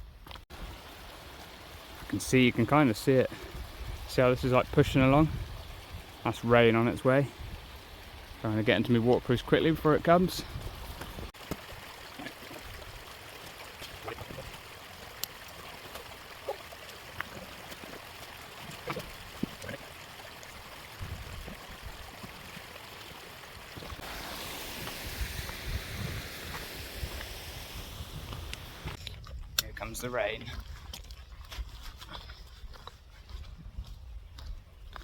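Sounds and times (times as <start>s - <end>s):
steady water-like hiss: 0.5s - 29.0s.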